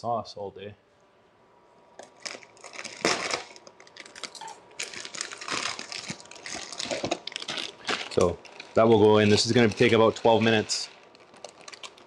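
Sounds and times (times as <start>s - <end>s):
plastic bag crinkling: 2.0s - 12.0s
dry pasta shifting in a bag: 2.2s - 12.0s.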